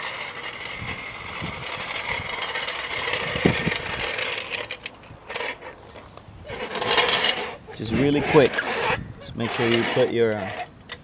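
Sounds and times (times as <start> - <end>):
floor jack wheels rattling on asphalt: 0.0 - 11.0.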